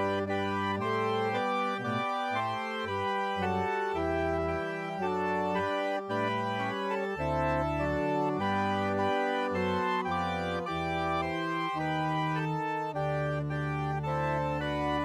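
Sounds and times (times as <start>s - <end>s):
organ chords: 0.0s - 15.0s.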